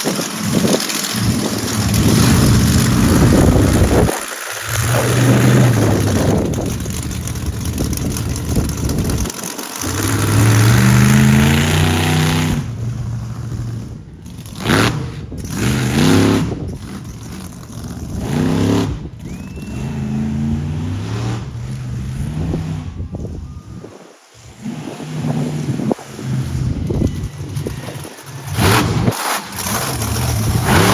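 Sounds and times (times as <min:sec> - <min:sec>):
truck engine revving: 0:00.0 - 0:30.9.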